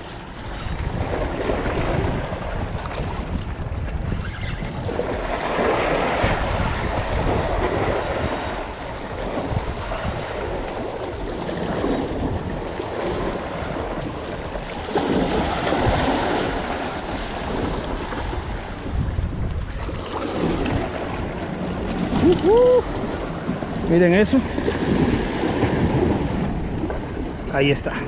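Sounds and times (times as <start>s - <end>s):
waves splashing over rocks: 0.0s - 4.0s, 4.8s - 28.0s
wind buffeting microphone: 0.0s - 28.0s.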